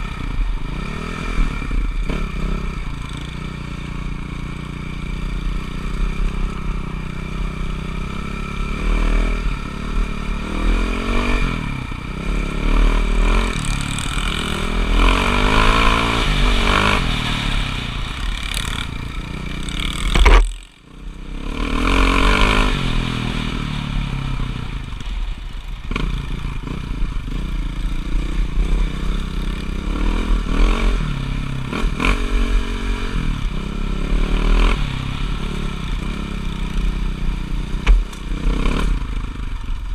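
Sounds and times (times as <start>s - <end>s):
dirt bike engine revving: 0.0s - 24.8s, 25.9s - 39.5s.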